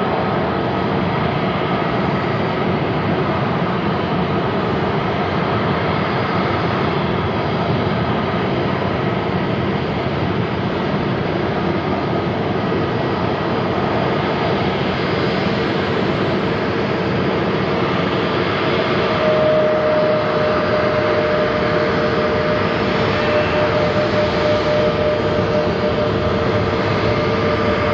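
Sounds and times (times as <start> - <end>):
jet engines running: 0.0 - 27.9
steady engine whine: 0.0 - 27.9.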